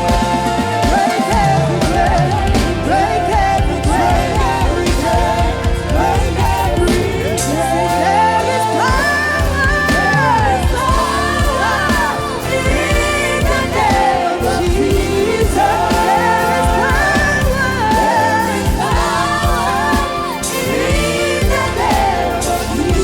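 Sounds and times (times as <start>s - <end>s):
band with drums and bass: 0.0s - 23.0s
voices singing gospel song: 0.0s - 23.0s.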